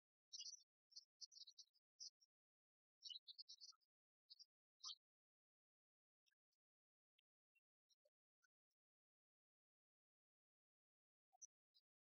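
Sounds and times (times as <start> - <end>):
faint high-pitched chirps: 0.0 - 12.0.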